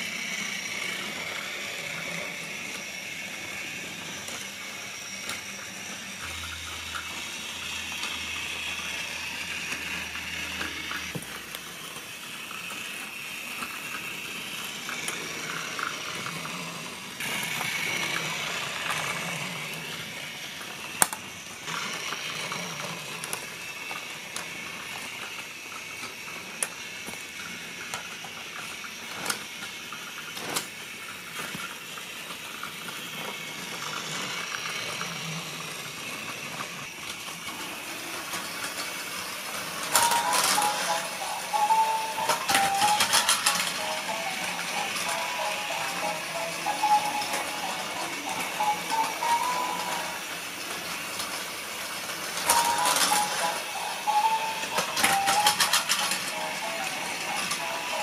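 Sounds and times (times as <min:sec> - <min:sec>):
toy train whirring rattle: 0:00.0 - 0:58.0.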